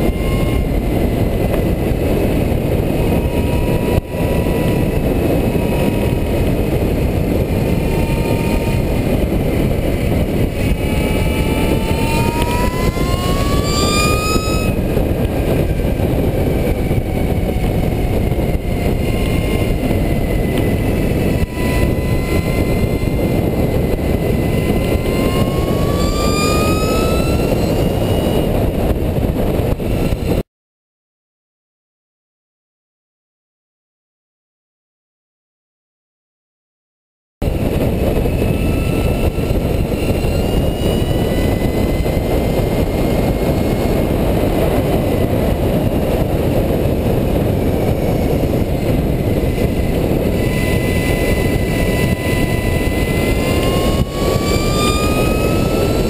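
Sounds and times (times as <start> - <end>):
electric motor whine: 0.0 - 30.4, 37.4 - 56.0
heavy wind rush: 0.0 - 30.4, 37.4 - 56.0.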